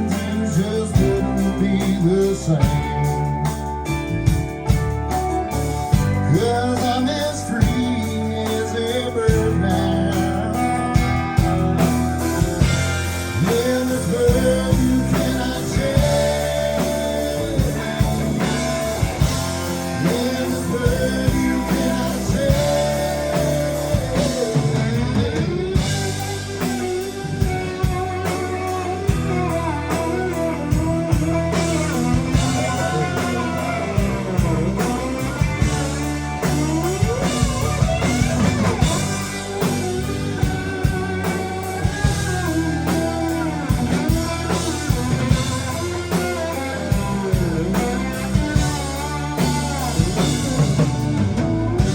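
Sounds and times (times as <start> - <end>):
electric guitar melody: 0.0 - 51.9
live rock band: 0.0 - 51.9.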